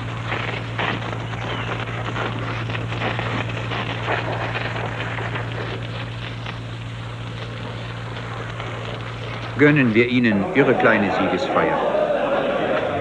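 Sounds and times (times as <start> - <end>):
burning vegetation crackling: 0.0 - 13.0
steady low hum: 0.0 - 13.0.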